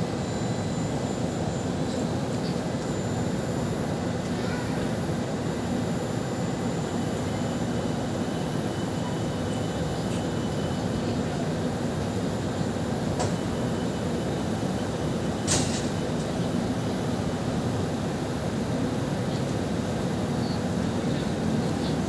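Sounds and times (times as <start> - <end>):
tram running hum: 0.0 - 22.0.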